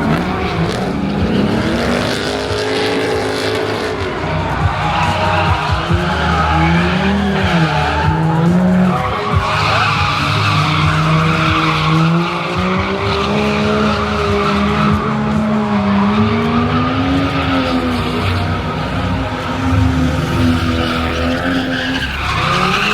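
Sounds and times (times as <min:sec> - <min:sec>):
car engine revving: 0:00.0 - 0:22.9
tyres squealing: 0:00.0 - 0:22.9.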